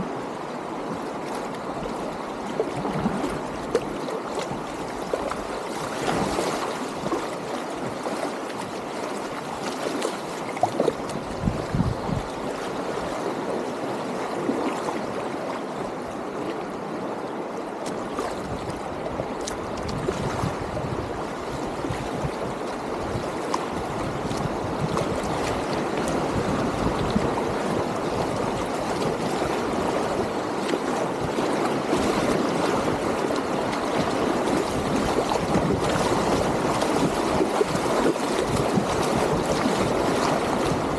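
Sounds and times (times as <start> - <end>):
river rapids rushing and gurgling: 0.0 - 40.9
water splashes: 0.0 - 40.9.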